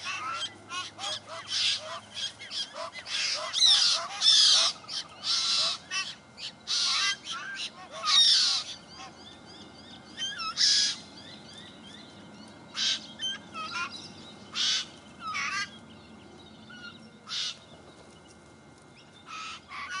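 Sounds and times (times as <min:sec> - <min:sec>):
birds harsh rasping calls: 0:00.0 - 0:18.2, 0:19.0 - 0:20.0.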